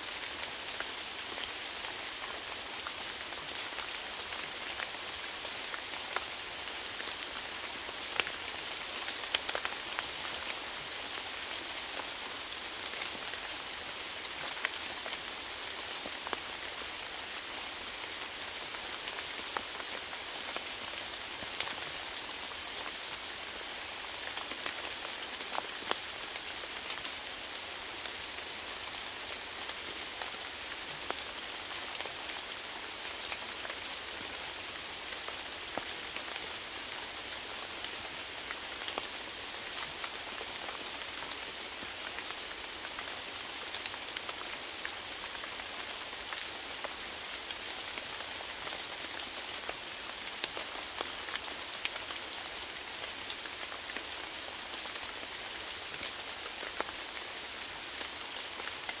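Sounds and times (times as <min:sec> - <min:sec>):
raindrops pattering: 0:00.2 - 0:59.0.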